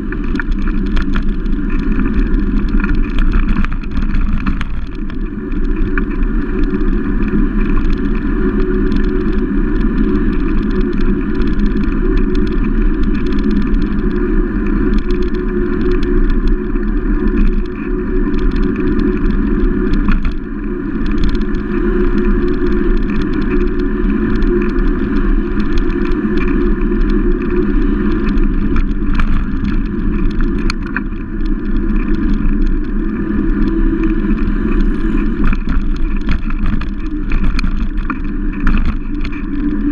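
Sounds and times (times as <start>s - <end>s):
road rumble: 0.0s - 39.9s
wind buffeting: 0.0s - 39.9s.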